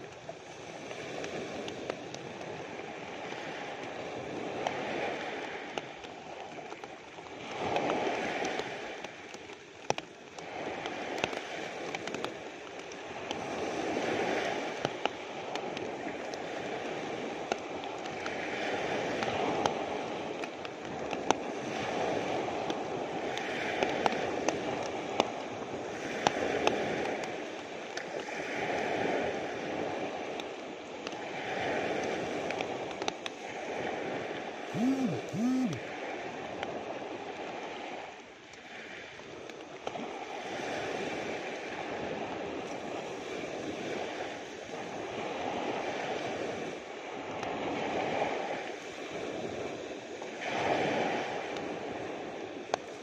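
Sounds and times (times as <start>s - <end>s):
waves washing up pebble beach: 0.4s - 34.6s, 36.0s - 53.0s.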